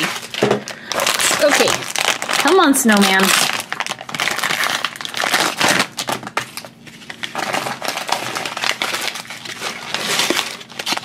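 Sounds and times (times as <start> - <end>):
foil bag crinkling: 0.0 - 11.0
paper rustling and tearing: 0.0 - 11.0.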